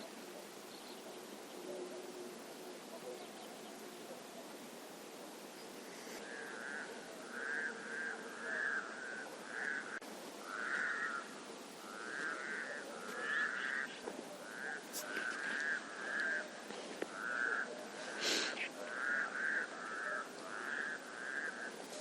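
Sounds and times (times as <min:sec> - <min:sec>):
frogs croaking: 0:00.0 - 0:22.0
steady hiss: 0:00.0 - 0:22.0.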